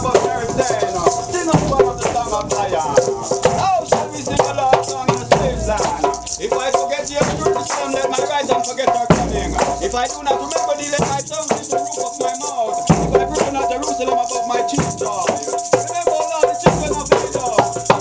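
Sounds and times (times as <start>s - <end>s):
hand drums: 0.0s - 18.0s
shakers rattling: 0.0s - 18.0s.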